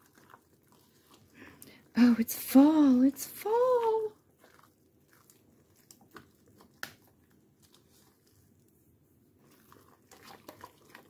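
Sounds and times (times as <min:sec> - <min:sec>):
spoon stirring thick mixture: 0:00.0 - 0:11.0.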